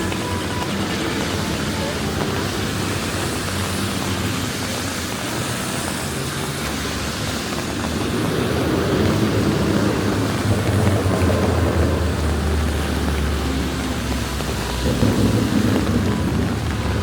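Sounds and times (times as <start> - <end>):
traffic hiss on wet road: 0.0 - 17.0
vehicle engine rumble: 0.0 - 17.0.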